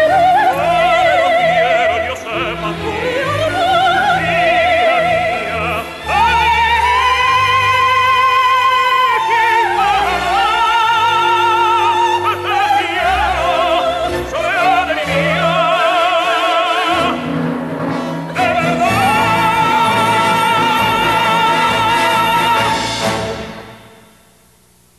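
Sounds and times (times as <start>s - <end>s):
operatic duet singing: 0.0s - 23.9s
orchestra playing: 0.0s - 24.2s.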